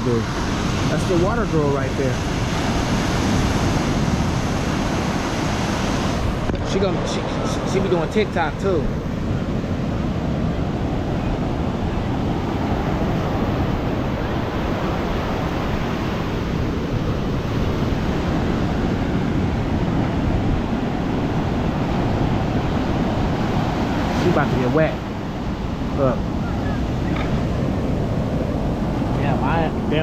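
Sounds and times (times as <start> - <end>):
surf washing onto beach: 0.0 - 30.0
wind noise on microphone: 0.0 - 30.0.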